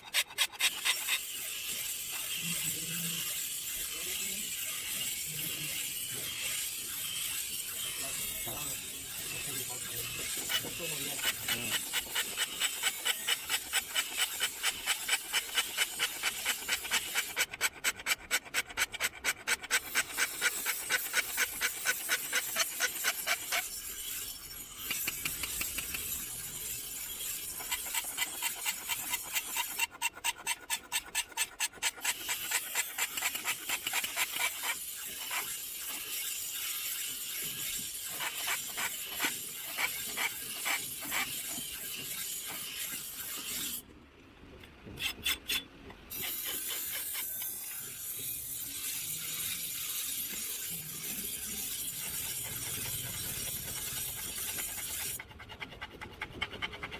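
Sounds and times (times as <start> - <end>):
metal file rasping on blade: 0.0 - 43.8, 45.0 - 56.9.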